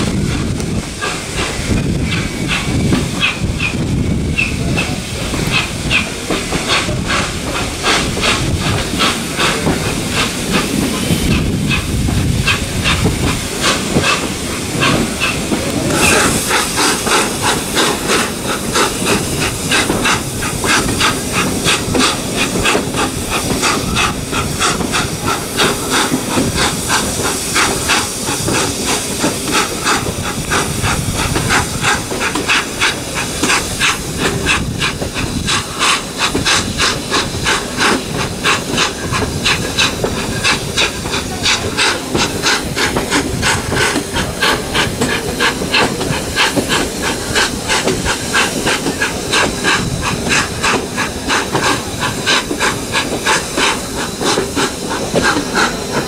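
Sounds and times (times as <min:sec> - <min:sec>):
steam locomotive exhaust beats: 0:00.0 - 0:56.0
train running rumble: 0:00.0 - 0:56.0.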